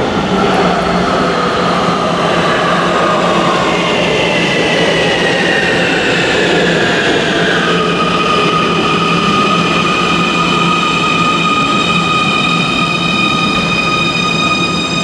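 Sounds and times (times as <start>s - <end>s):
train electric drive whine: 0.0s - 15.0s.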